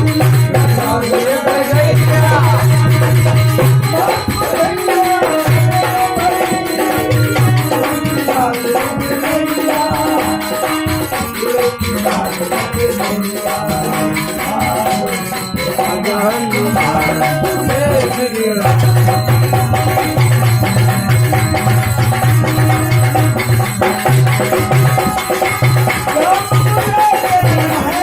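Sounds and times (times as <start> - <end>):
dholak hand drum: 0.0 - 28.0
jingling percussion: 0.0 - 28.0.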